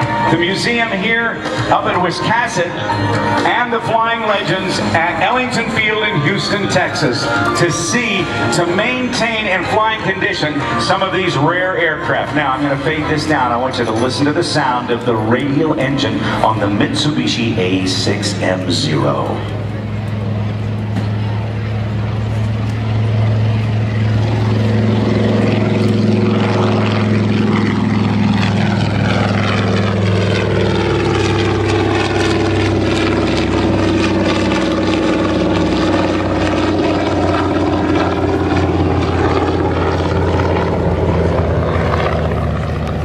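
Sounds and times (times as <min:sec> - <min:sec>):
propeller plane engine droning: 0:00.0 - 0:43.0.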